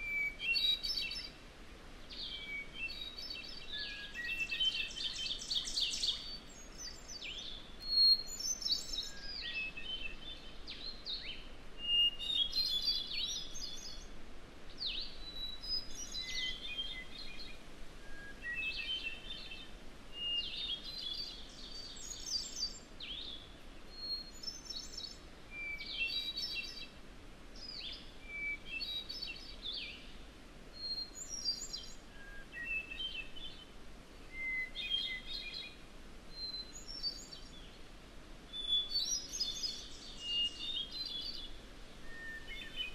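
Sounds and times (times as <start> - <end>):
faint background hiss: 0.0 - 42.9.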